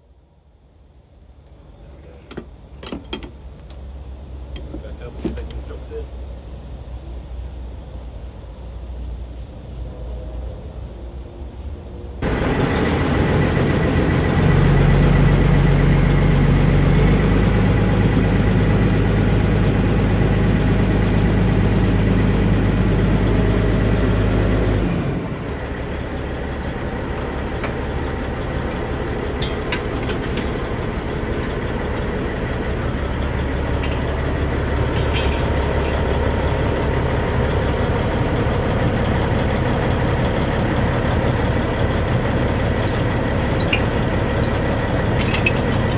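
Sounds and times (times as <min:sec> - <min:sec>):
diesel truck engine running: 0:01.1 - 0:45.9.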